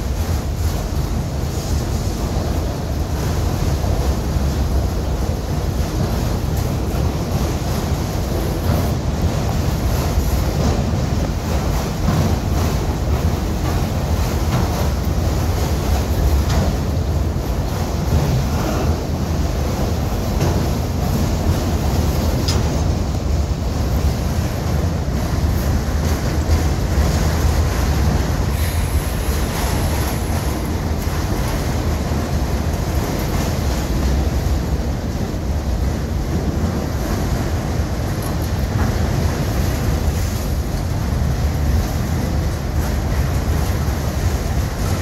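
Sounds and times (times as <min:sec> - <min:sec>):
sharp clicks of train wheels: 0:00.0 - 0:45.0
train wheels rumbling on rail: 0:00.0 - 0:45.0
wind buffeting microphone: 0:00.0 - 0:45.0.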